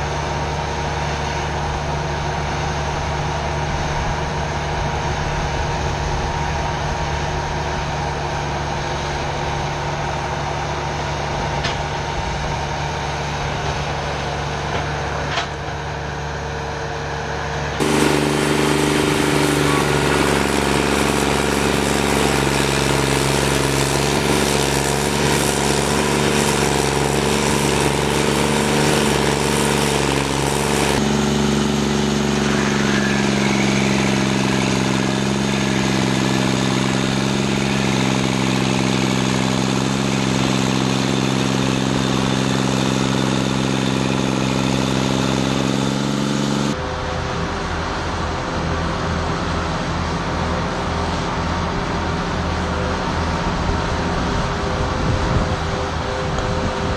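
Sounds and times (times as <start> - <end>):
cutting wheel grinding stump: 0.0 - 56.9
stump grinder engine running: 0.0 - 56.9.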